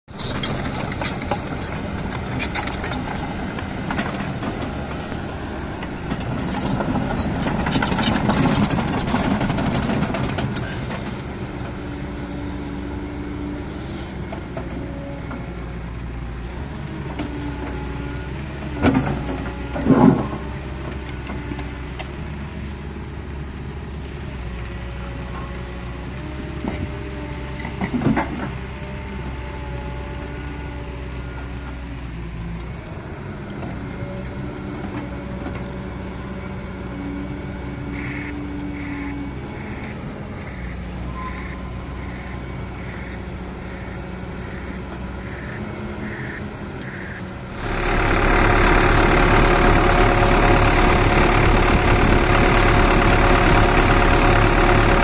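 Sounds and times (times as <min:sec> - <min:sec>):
excavator diesel engine running: 0:00.1 - 0:55.0.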